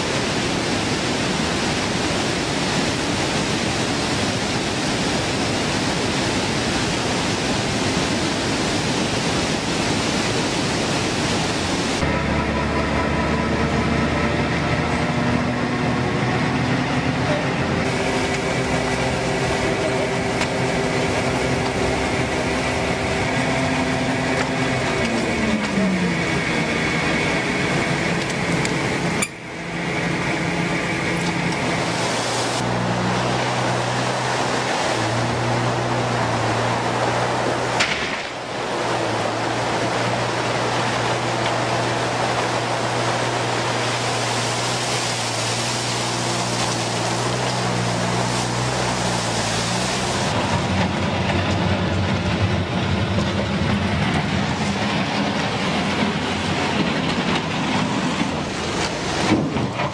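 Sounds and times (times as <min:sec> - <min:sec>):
water rushing over weir: 0:00.0 - 0:59.9
truck engine humming: 0:10.4 - 0:59.9.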